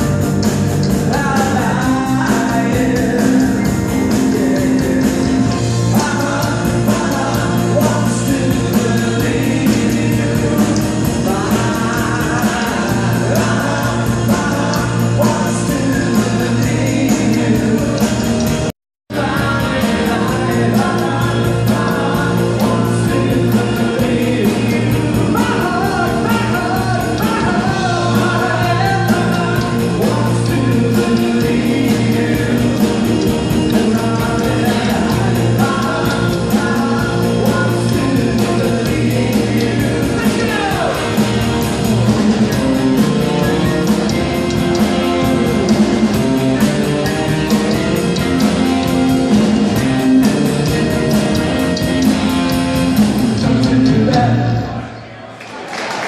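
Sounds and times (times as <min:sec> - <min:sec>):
drum kit: 0:00.0 - 0:54.9
bass guitar: 0:00.0 - 0:55.1
electric guitar: 0:00.0 - 0:55.1
person singing: 0:00.8 - 0:55.0.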